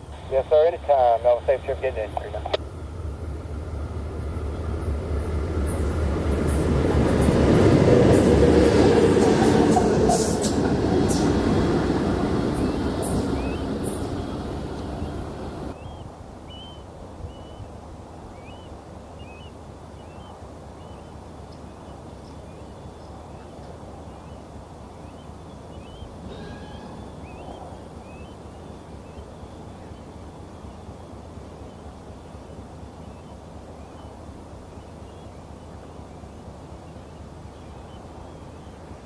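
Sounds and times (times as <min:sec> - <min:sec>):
songbirds chirping: 0:00.0 - 0:07.7, 0:11.1 - 0:39.0
outdoor background hiss: 0:00.0 - 0:07.9, 0:10.2 - 0:39.0.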